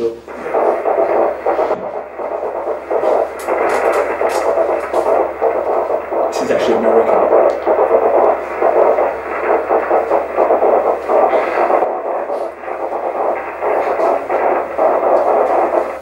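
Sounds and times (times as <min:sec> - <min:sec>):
morse code pulses as rough hiss: 0:00.1 - 0:16.0.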